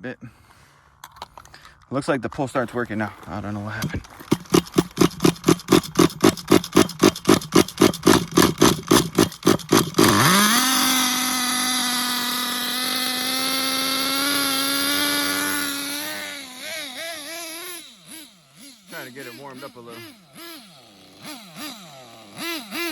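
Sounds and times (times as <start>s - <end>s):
nitro engine chugging: 2.6s - 22.9s.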